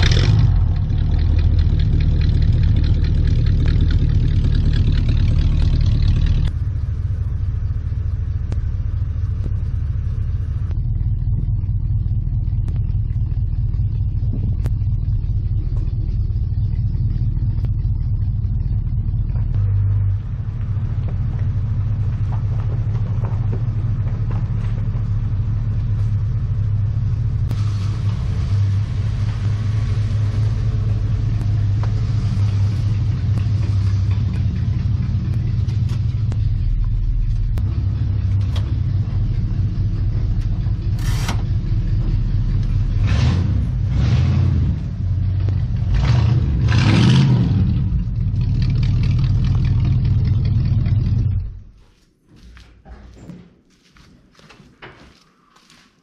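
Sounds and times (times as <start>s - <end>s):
car engine low rumble: 0.0s - 53.3s.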